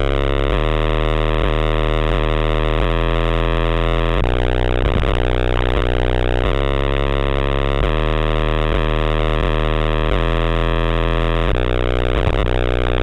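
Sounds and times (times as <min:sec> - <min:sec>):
distorted deep bass from subwoofers: 0:00.0 - 0:13.0.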